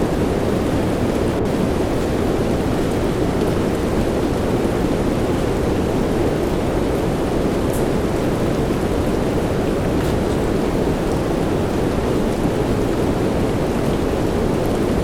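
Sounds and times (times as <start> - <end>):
soft rain hiss: 0.0 - 15.0.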